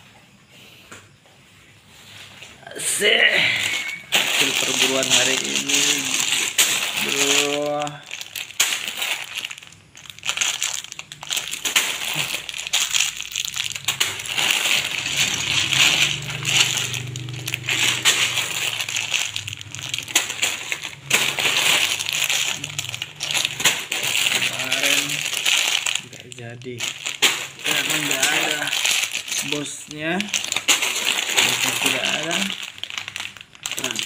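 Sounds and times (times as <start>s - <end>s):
plastic bags crinkling: 2.1s - 34.0s.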